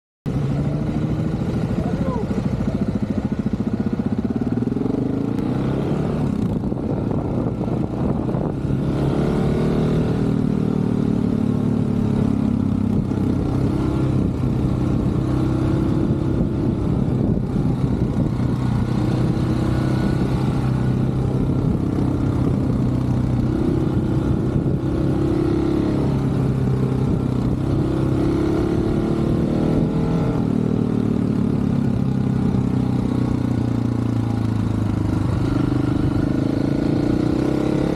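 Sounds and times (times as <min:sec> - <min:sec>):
motorcycle engine revving: 0:00.3 - 0:37.9.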